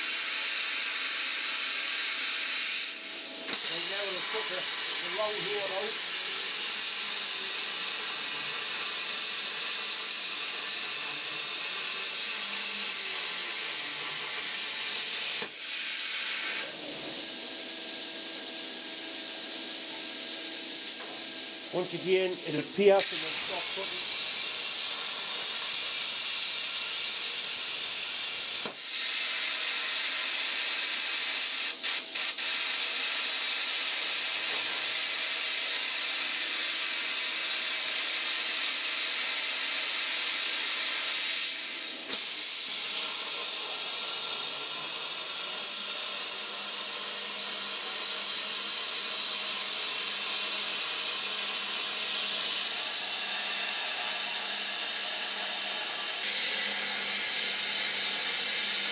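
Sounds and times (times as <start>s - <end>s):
plasma cutter torch hissing: 0.0s - 58.9s.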